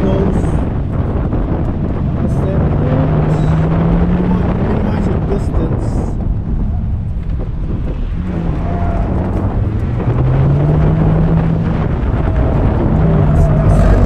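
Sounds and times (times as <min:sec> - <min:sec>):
wind noise: 0:00.0 - 0:14.0
car engine from inside cabin: 0:00.1 - 0:14.0.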